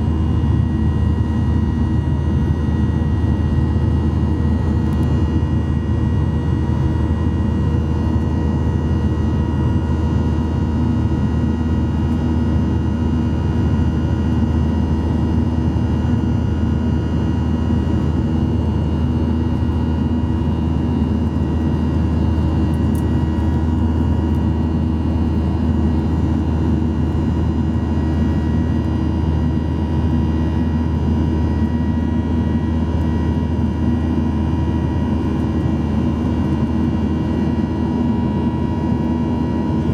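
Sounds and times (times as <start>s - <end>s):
jet engines heard inside cabin: 0.0s - 39.9s.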